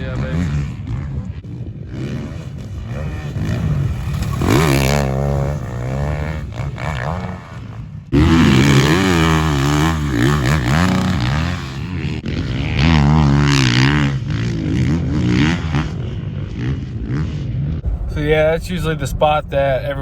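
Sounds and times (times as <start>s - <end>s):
motocross bike engines revving: 0.0s - 17.8s.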